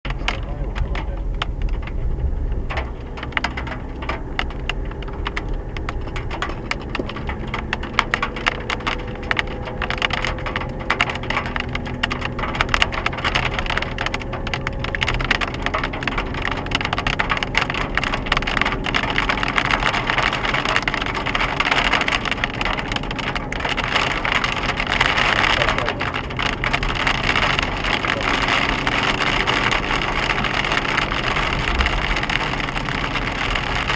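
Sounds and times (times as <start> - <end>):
engine running rumble: 0.0 - 33.9
hailstones pelting a vehicle: 0.1 - 33.9.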